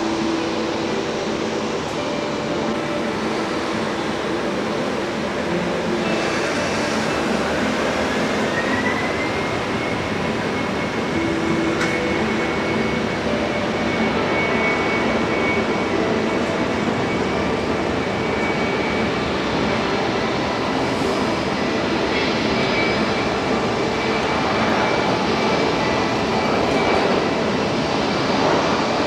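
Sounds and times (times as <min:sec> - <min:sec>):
jet engines spooling up: 0:00.0 - 0:29.0.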